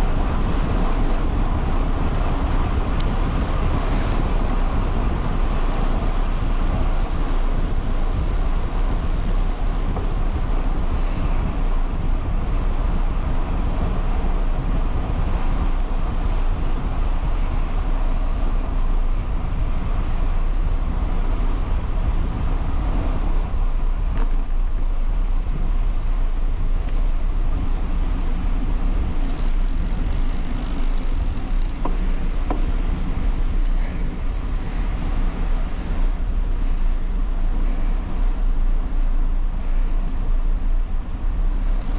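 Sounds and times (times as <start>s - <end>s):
road rumble: 0.0s - 41.9s
wind noise on microphone: 0.0s - 41.9s.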